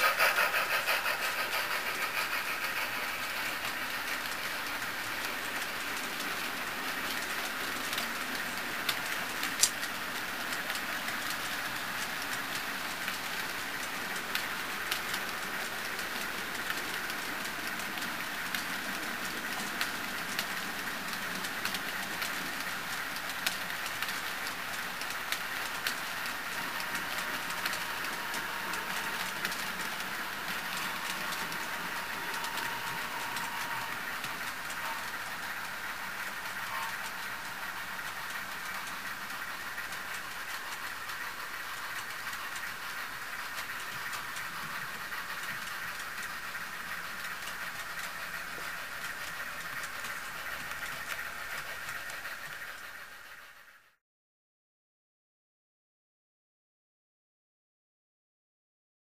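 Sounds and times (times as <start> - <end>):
wheels clicking over rail joints: 0.0 - 53.9
model train cars rolling: 0.0 - 54.0.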